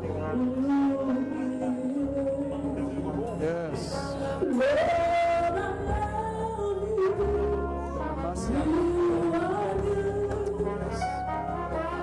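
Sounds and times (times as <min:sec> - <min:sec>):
low steady accompaniment: 0:00.0 - 0:12.0.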